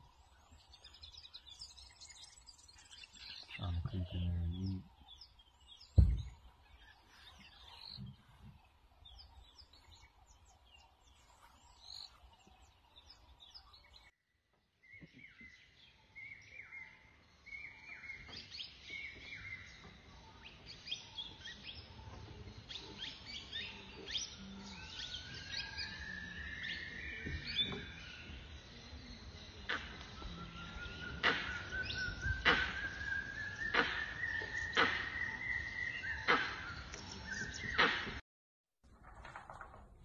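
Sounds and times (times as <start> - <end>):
birds chirping and calling: 0.0 - 14.1, 15.0 - 38.2.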